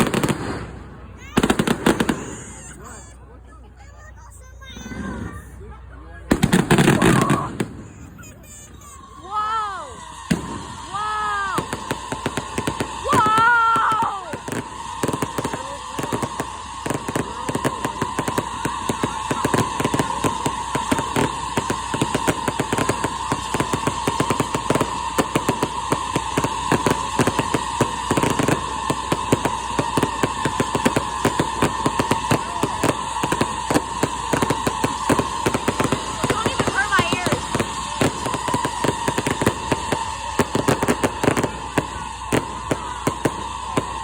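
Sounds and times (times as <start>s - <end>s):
fireworks crackling: 0.0s - 44.0s.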